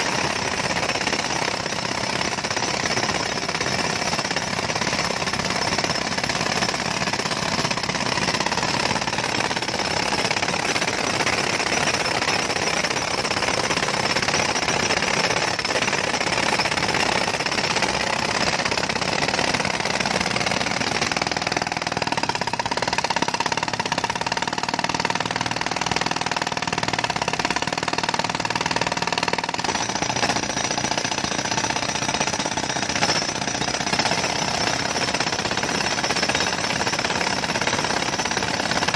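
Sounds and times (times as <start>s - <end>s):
jackhammer breaking road: 0.0s - 38.9s.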